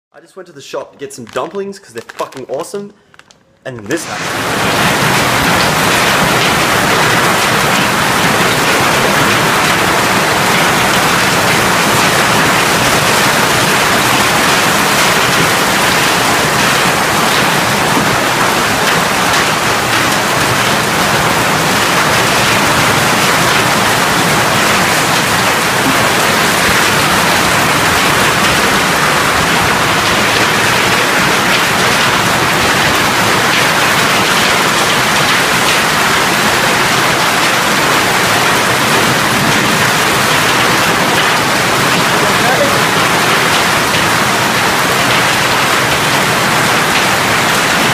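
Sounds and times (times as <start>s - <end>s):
hail and rain on pavement: 3.9s - 47.9s.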